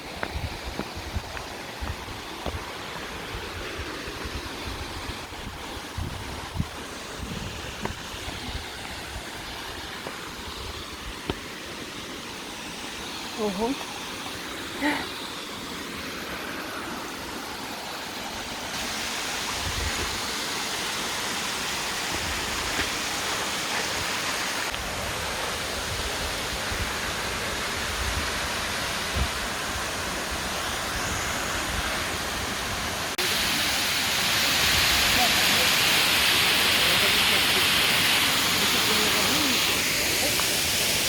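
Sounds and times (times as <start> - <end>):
waterfall roaring: 0.0 - 41.0.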